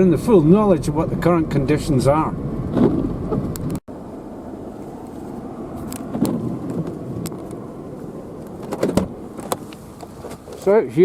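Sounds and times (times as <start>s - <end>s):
car driving on snow: 0.0s - 11.0s.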